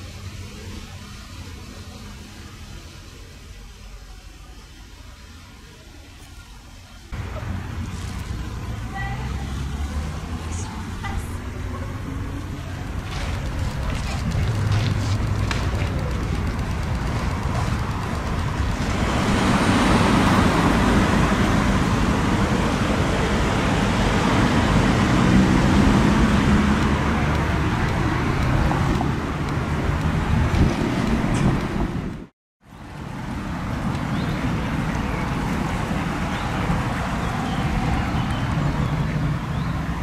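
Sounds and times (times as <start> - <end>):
hum of road traffic: 0.0 - 40.0
vehicle passing: 7.2 - 32.3, 33.0 - 40.0.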